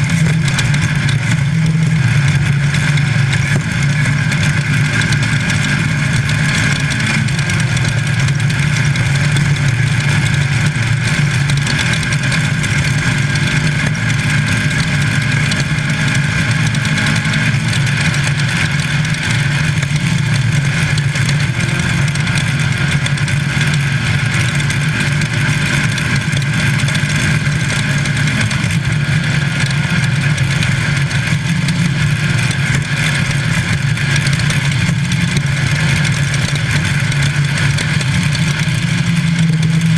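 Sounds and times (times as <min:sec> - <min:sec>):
race car engine running loud: 0:00.0 - 0:39.9.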